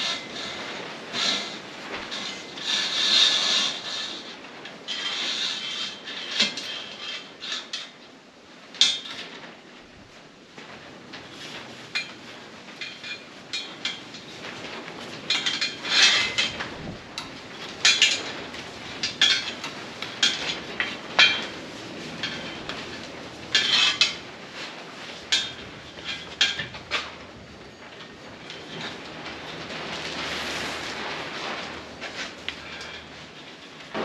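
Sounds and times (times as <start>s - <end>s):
wire cable scraping on steel bar: 0.0s - 8.1s, 10.6s - 34.0s.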